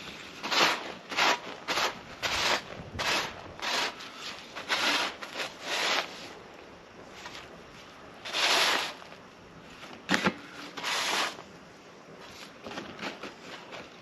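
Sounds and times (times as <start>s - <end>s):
grow bag rustling and scraping: 0.0s - 11.5s, 12.1s - 14.0s.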